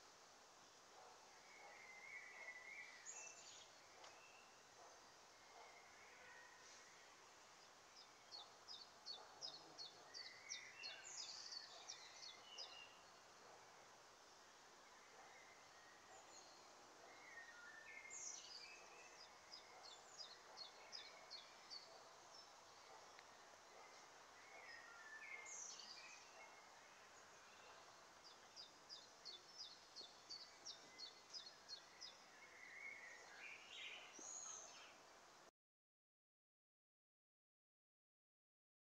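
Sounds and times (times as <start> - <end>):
outdoor background hiss: 0.0 - 35.5
songbird singing: 0.0 - 35.5.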